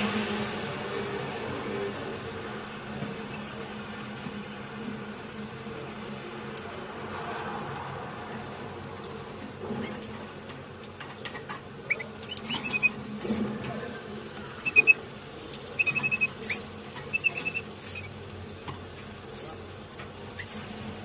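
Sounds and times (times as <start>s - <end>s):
canaries chirping: 0.0s - 21.0s.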